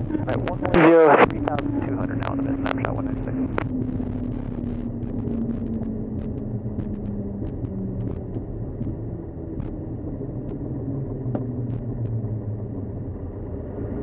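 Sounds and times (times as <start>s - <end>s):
propeller plane engine idling: 0.0s - 14.0s.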